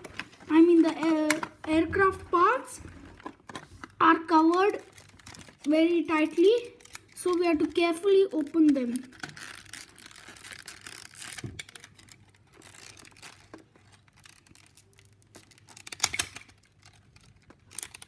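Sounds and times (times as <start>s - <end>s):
packaging crinkling and tearing: 2.8s - 18.0s.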